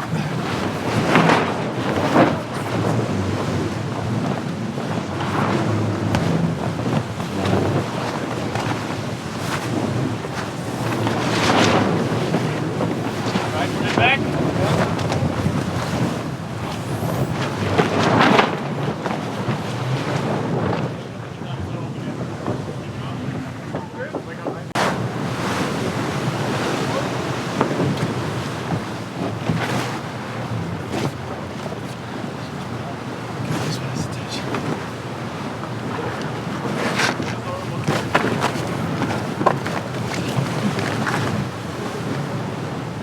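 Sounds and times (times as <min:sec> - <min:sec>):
water rushing past a hull: 0:00.0 - 0:43.0
wind buffeting the microphone: 0:00.0 - 0:43.0.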